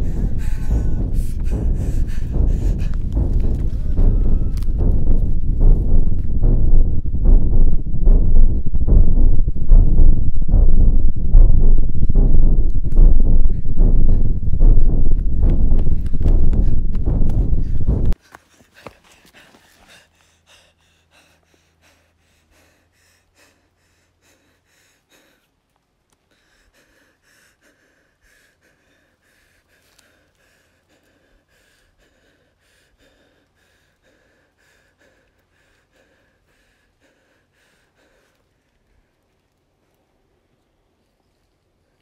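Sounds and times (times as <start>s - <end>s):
woman breathing quickly: 0.0s - 25.6s, 26.2s - 39.5s.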